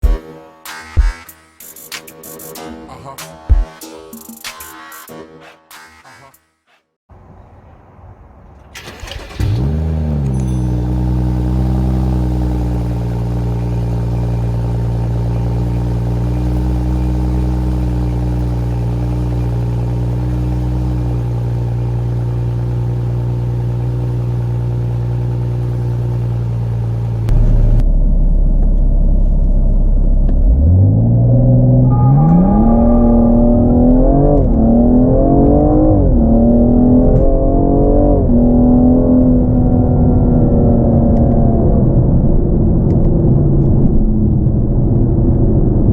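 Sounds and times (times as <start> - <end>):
car engine starting and revving: 8.6 - 45.9.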